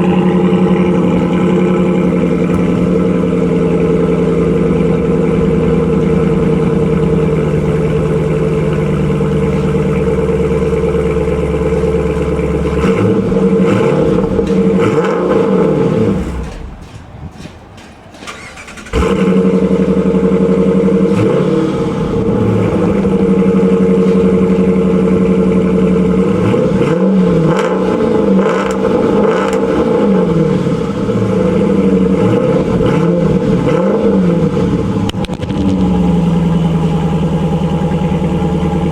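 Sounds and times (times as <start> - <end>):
car engine revving: 0.0 - 17.4, 18.3 - 38.9
car engine idling: 0.0 - 38.9
car engine starting: 0.0 - 38.9.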